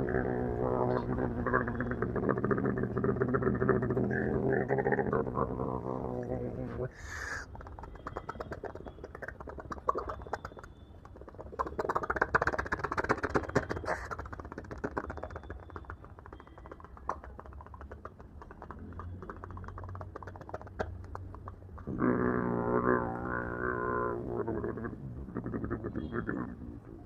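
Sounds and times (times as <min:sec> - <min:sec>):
man imitating helicopter with mouth: 0:00.0 - 0:27.0.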